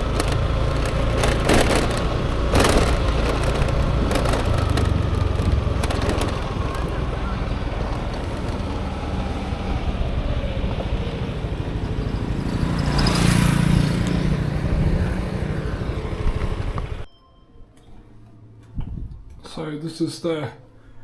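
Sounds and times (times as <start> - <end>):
vehicle passing close: 0.0 - 17.0
vehicle engine and traffic noise: 0.0 - 17.1.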